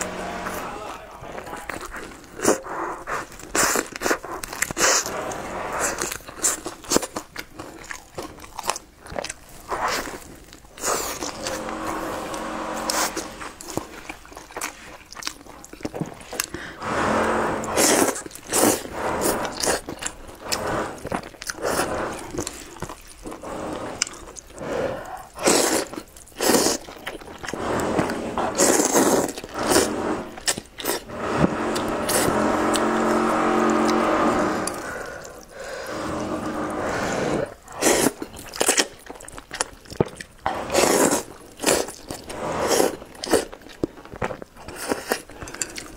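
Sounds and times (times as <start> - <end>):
chewing food: 0.0 - 45.9
slurping noodles: 0.0 - 45.9.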